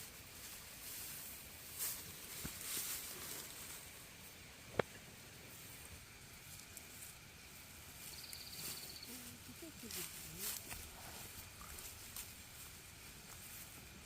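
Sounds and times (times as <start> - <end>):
outdoor rustling and hiss: 0.0 - 14.0.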